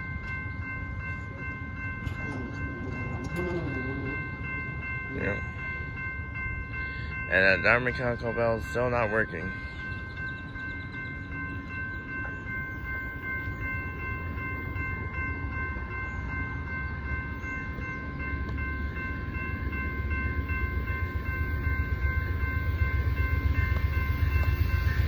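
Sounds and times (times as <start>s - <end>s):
high ringing crossing warning tone: 0.0s - 25.0s
train rumbling: 0.0s - 25.0s.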